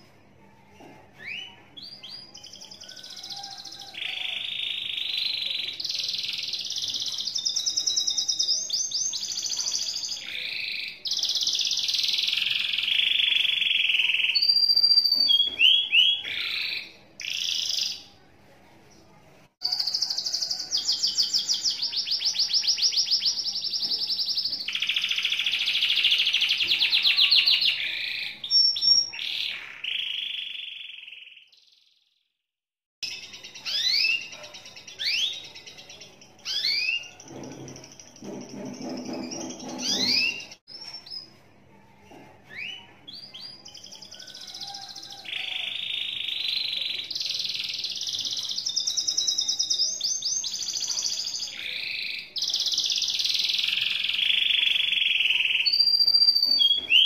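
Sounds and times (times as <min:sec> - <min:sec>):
canary singing trills: 0:01.2 - 0:18.2, 0:19.6 - 0:32.0, 0:33.0 - 0:41.4, 0:42.5 - 0:57.0.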